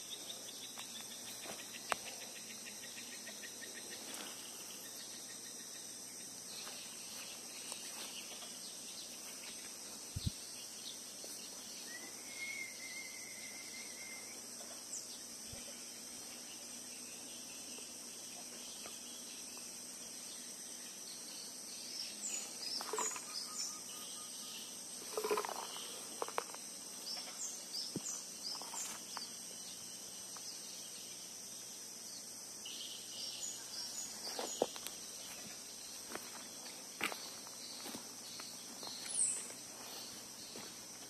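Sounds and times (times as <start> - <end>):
bird chirping: 0.0 - 40.7
high insect drone: 0.0 - 41.0.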